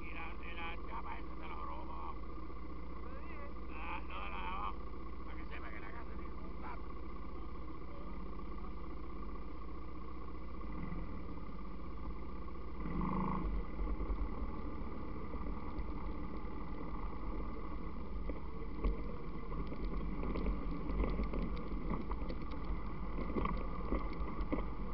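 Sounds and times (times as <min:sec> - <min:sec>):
quad engines running: 0:00.0 - 0:24.9.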